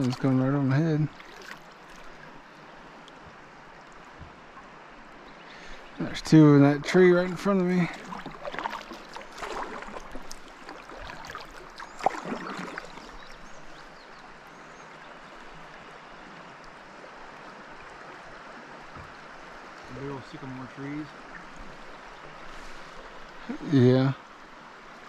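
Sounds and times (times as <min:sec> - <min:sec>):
flowing river water: 0:00.0 - 0:25.0
water splashing around kayak: 0:00.0 - 0:25.0.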